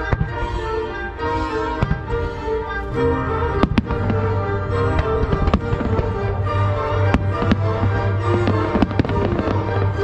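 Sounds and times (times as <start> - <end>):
music playing: 0.0 - 10.0.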